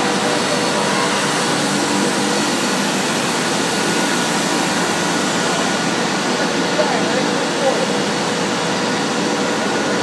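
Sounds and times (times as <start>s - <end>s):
blower airflow whoosh and hum: 0.0s - 10.0s.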